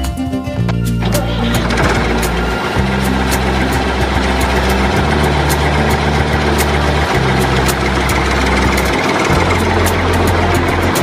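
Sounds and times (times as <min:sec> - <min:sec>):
tractor engine hum: 0:00.6 - 0:11.0.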